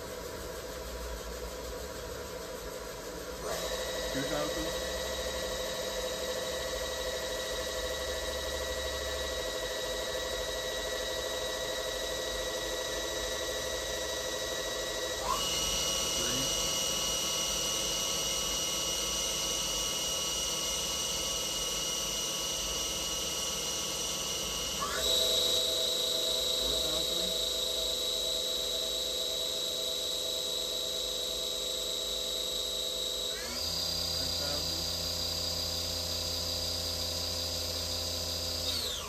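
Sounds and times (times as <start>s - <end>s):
machine spindle whine: 0.0s - 39.0s.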